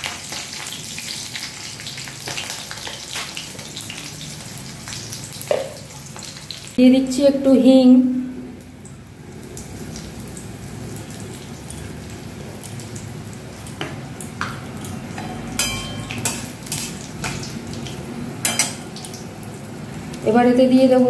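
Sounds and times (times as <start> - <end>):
spices sizzling in hot oil: 0.0 - 6.8, 8.5 - 21.0.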